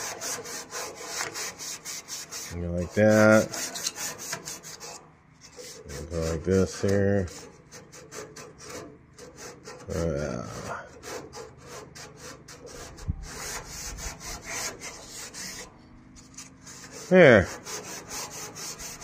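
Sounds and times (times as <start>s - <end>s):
sandpaper rubbing on metal: 0.0s - 19.0s.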